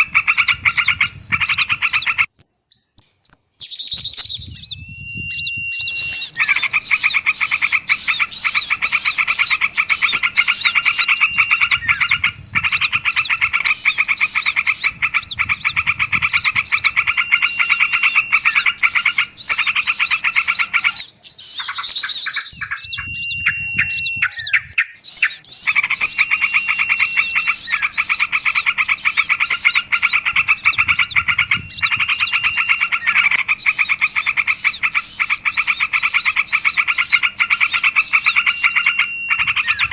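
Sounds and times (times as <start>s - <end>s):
songbirds chattering trill: 0.0s - 39.9s.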